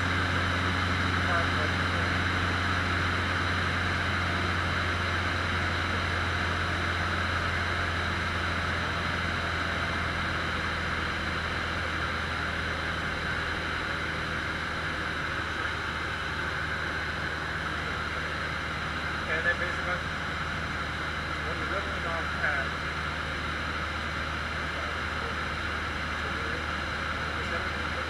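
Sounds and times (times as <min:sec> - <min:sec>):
light aircraft engine droning: 0:00.0 - 0:28.0.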